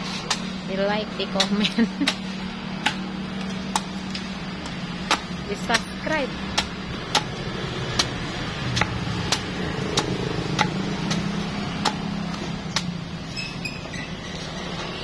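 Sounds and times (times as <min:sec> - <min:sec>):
machete chopping coconut husk: 0:00.0 - 0:13.1.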